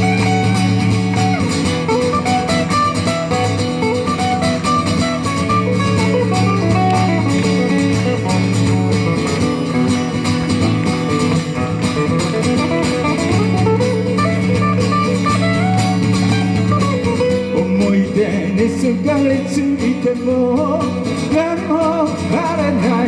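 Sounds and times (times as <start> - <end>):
guitar: 0.0 - 23.0
live band playing: 0.0 - 23.0.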